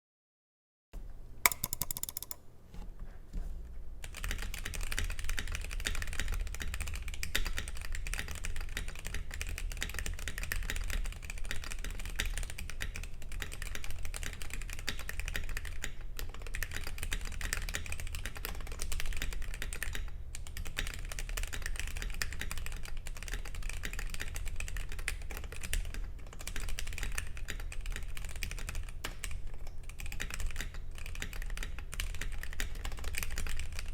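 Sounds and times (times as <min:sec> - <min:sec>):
mechanical keyboard typing: 0:01.5 - 0:02.4, 0:04.0 - 0:33.9.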